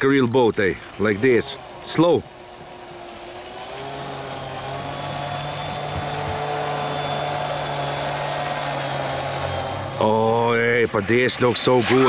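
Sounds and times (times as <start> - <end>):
electric motor whine: 0.8 - 12.0.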